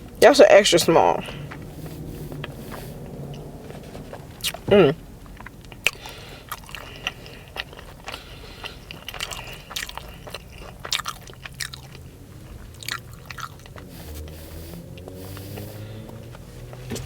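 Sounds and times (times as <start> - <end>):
chewing crunchy food: 1.2 - 17.0.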